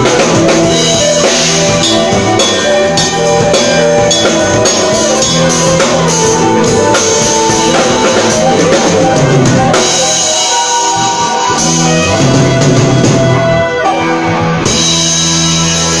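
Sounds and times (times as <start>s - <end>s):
drum solo: 0.0s - 16.0s
held pitched chords: 0.0s - 16.0s.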